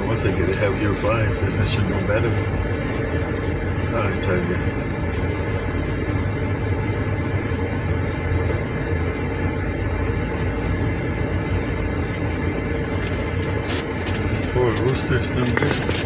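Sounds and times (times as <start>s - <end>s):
car driving over rough track: 0.0s - 16.0s.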